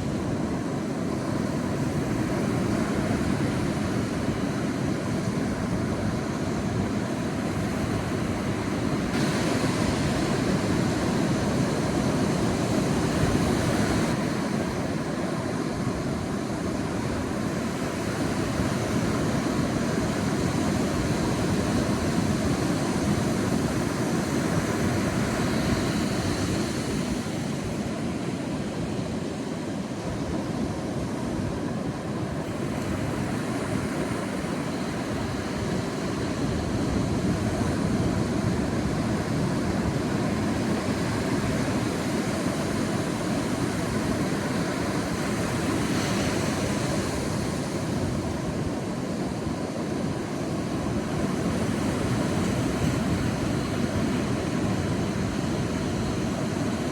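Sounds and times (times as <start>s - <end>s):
sea waves washing on beach: 0.0s - 56.9s.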